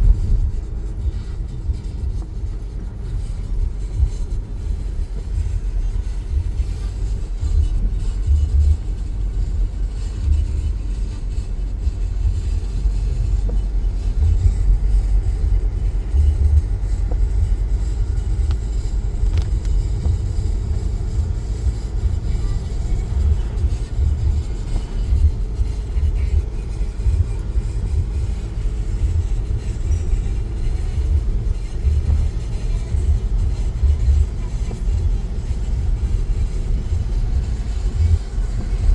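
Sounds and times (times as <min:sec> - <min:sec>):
storm wind buffeting microphone: 0:00.0 - 0:38.9.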